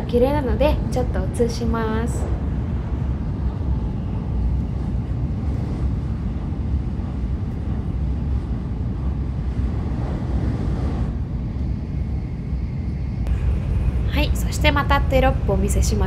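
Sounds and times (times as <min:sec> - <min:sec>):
bullet train low rumble: 0:00.0 - 0:16.0.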